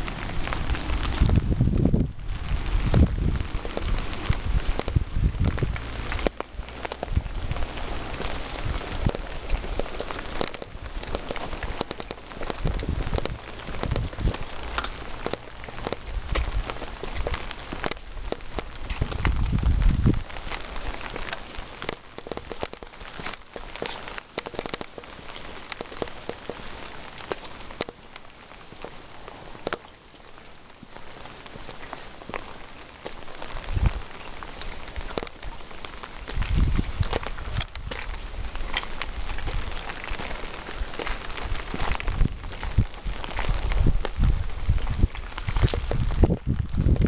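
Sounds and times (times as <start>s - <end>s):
close raindrops striking: 0.0s - 47.0s
rain falling: 0.0s - 47.0s.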